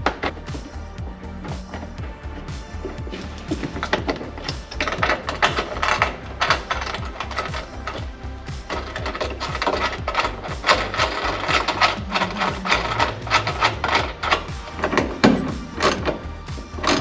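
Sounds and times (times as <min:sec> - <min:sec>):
background music with beat: 0:00.0 - 0:17.0.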